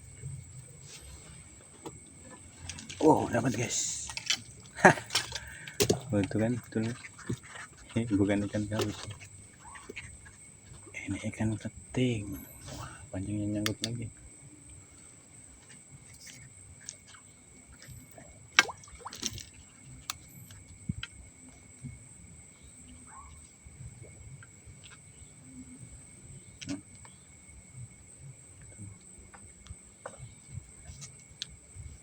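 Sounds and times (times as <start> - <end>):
night insects chirring: 0.0 - 32.0.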